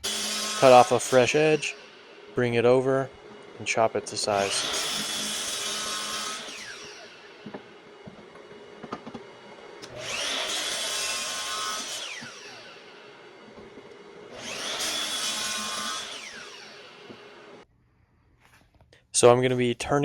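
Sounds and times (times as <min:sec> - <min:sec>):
miter saw cutting wood: 0:00.0 - 0:17.6.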